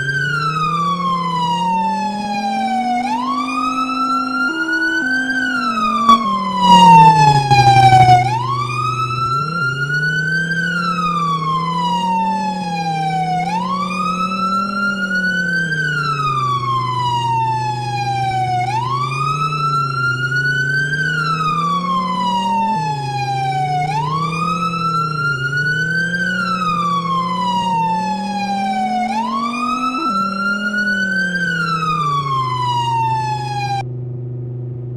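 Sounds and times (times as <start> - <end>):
emergency vehicle siren wailing: 0.0 - 33.9.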